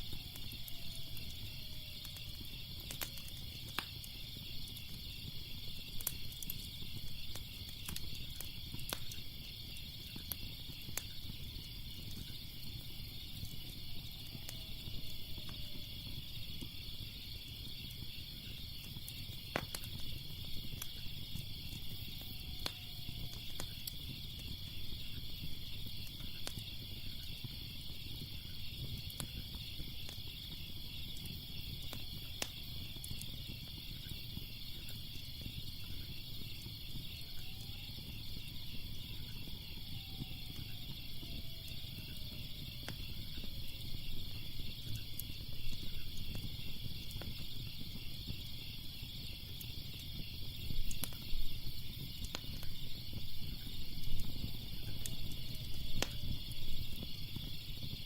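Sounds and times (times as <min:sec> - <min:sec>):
crickets chirping: 0:00.0 - 0:58.0
fire crackling and popping: 0:00.0 - 0:58.0.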